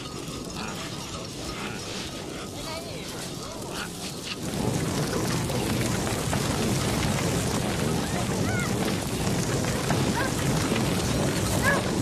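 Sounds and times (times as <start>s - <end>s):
reindeer trampling rumble: 0.0s - 12.0s.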